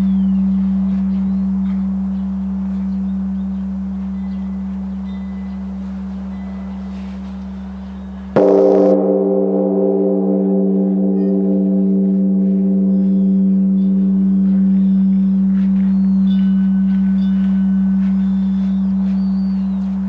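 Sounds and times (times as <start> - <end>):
large temple bell ringing: 0.0 - 20.0.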